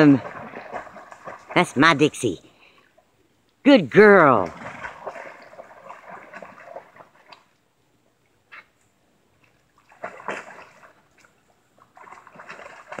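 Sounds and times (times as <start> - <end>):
water sloshing and splashing: 0.0 - 3.2, 4.0 - 13.0.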